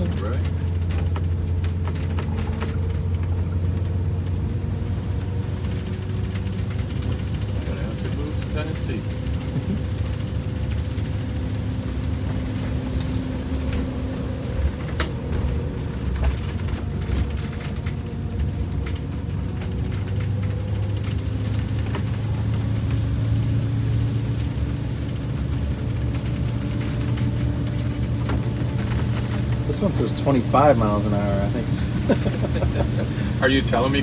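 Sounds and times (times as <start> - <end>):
diesel bus engine running: 0.0 - 34.0
interior rattles: 0.0 - 34.0
road noise: 0.0 - 34.0.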